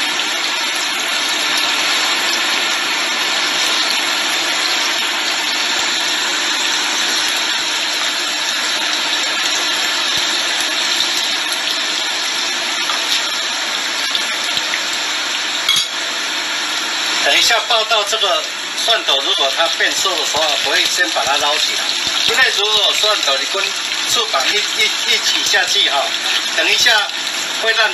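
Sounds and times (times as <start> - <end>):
food sizzling in oil: 0.0 - 27.9.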